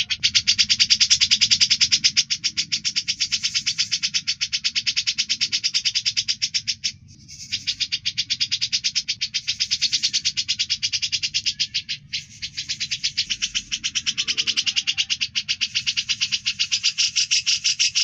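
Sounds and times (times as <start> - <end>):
songbird rattling trill: 0.0 - 18.0.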